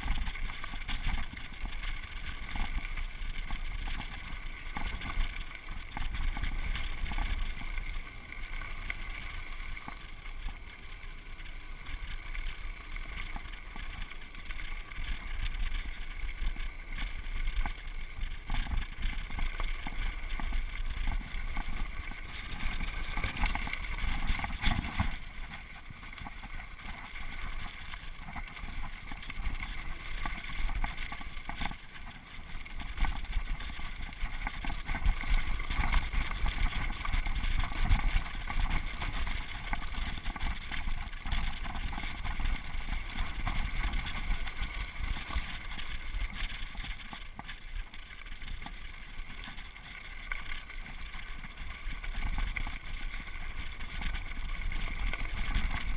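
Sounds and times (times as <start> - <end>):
bike rattling and knocking: 0.0 - 8.8, 12.4 - 55.9.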